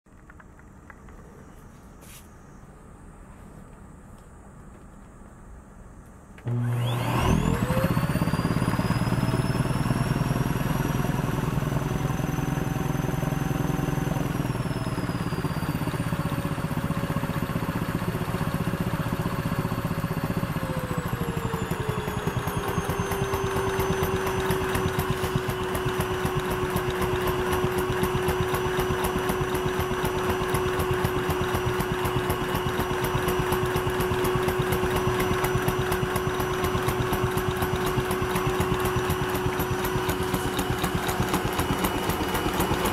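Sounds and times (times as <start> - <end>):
vacuum motor whine: 6.3 - 42.9.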